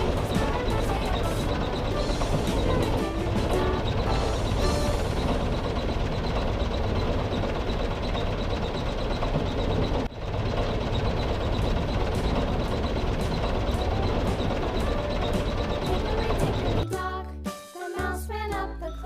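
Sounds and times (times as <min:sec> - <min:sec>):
vehicle engine rumble: 0:00.0 - 0:16.8.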